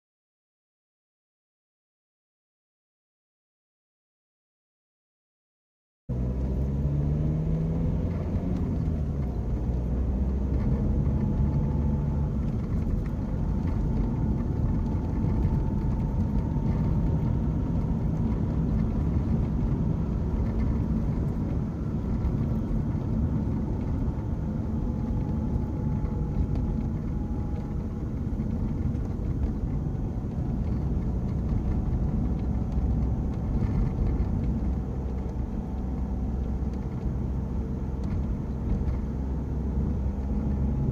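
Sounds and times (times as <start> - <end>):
engine and road rumble: 6.1 - 40.9.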